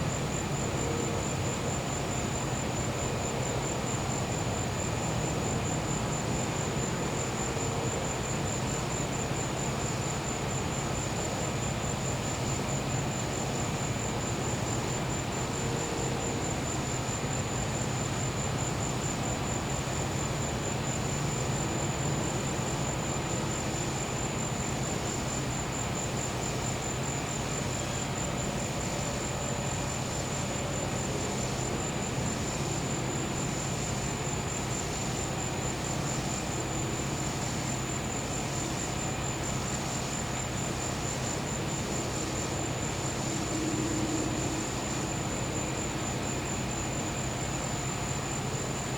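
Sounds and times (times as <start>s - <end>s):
crickets trilling: 0.0s - 48.9s.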